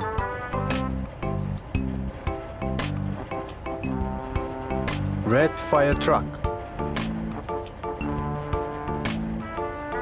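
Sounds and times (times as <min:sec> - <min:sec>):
cartoon background music: 0:00.0 - 0:10.0.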